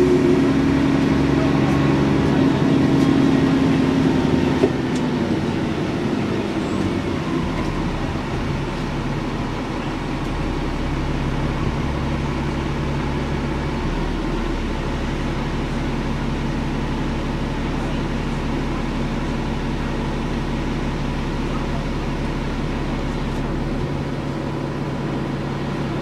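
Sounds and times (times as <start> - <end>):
bus diesel engine running: 0.0 - 26.0.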